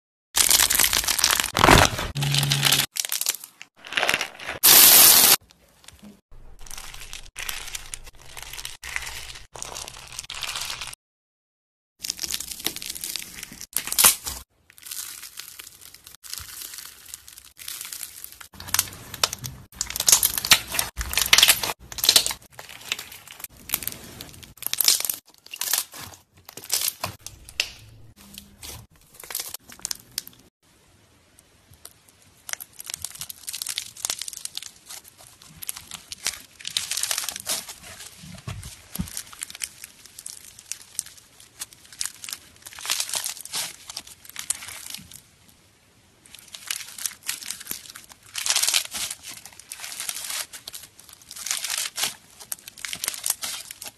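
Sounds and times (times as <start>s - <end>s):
crunchy slime crackling and popping: 0.4s - 5.4s, 6.4s - 11.0s, 12.0s - 27.7s, 31.8s - 45.2s, 46.2s - 53.9s.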